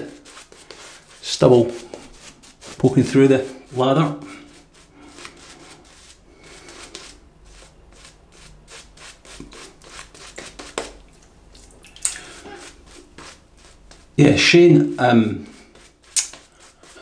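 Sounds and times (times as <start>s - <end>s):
shaving brush rubbing lather: 0.0s - 11.0s, 12.2s - 17.0s.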